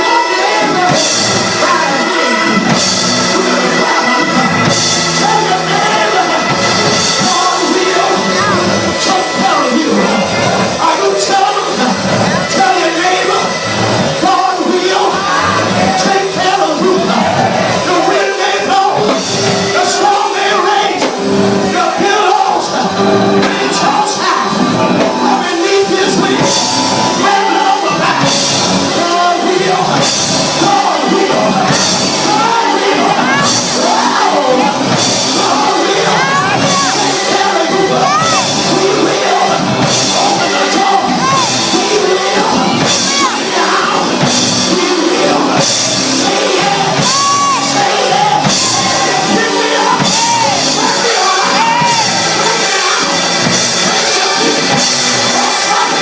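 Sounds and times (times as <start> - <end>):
band playing: 0.0 - 56.0
voices singing: 0.0 - 56.0.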